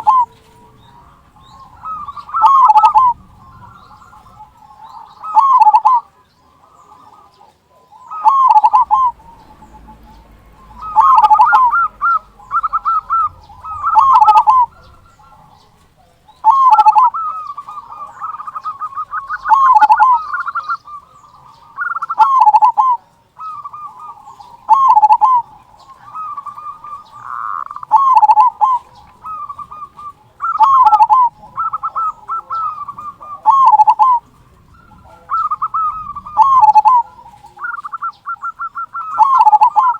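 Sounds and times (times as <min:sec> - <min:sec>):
soft bird trilling: 0:00.0 - 0:07.4, 0:08.0 - 0:39.9
dove cooing: 0:00.0 - 0:39.9.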